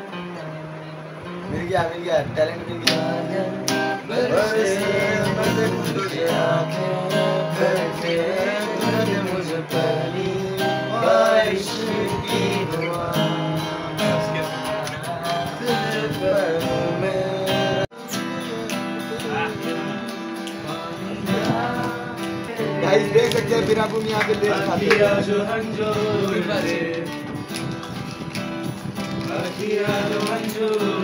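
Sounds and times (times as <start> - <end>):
acoustic guitar strumming: 0.0 - 31.0
young men singing along: 1.5 - 27.3, 29.1 - 31.0.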